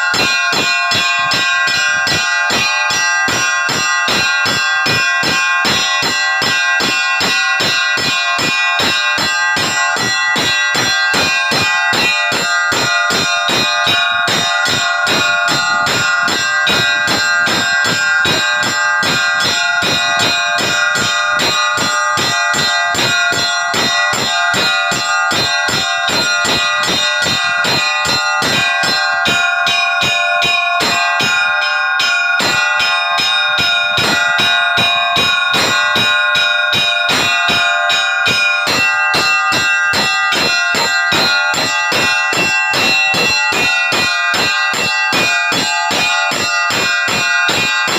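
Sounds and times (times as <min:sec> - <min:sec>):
church bells rung rapidly: 0:00.0 - 0:47.9.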